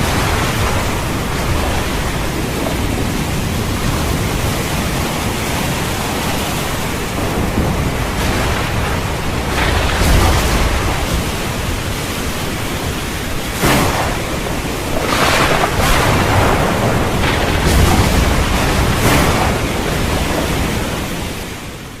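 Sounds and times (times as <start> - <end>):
sharp thunder cracks: 0.0 - 21.8
heavy rain: 0.0 - 22.0
rolling rumble of thunder: 0.0 - 22.0.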